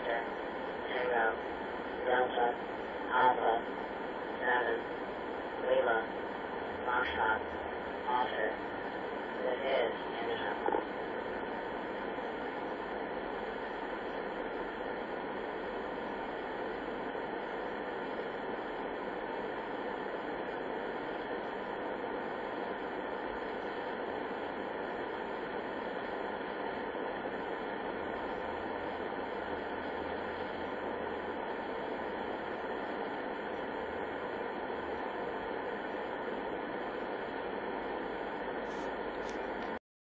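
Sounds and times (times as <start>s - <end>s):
shortwave radio hiss and static: 0.0s - 39.8s.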